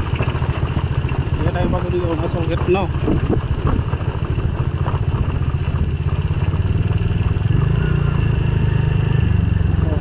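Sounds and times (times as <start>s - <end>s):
motor scooter engine: 0.0s - 10.0s
road noise: 0.0s - 10.0s.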